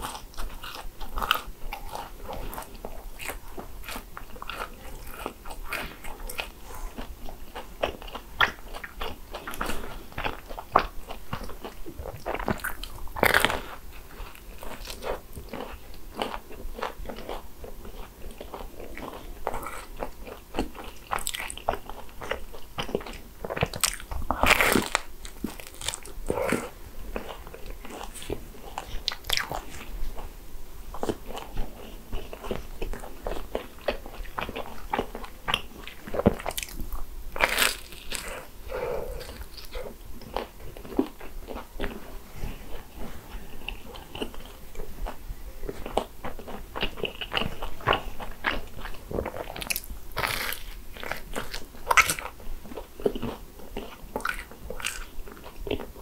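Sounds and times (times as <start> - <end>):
person chewing crisp pastry: 0.0 - 56.0.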